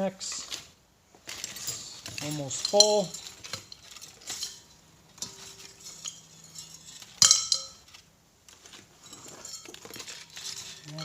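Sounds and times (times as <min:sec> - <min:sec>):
scrap metal clinking: 0:00.3 - 0:11.0.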